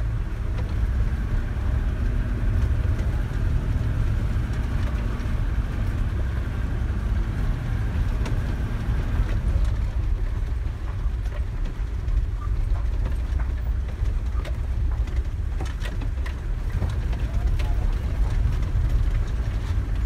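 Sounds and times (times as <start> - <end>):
engine and road rumble: 0.0 - 20.0
rattles and knocks from ruts: 0.0 - 20.0.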